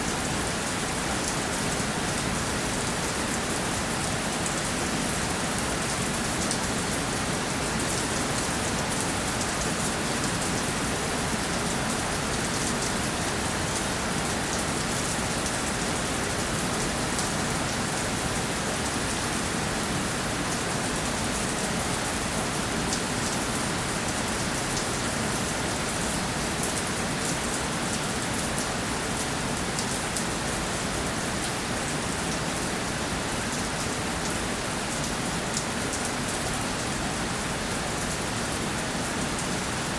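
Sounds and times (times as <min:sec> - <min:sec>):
rain hissing on a surface: 0:00.0 - 0:39.9.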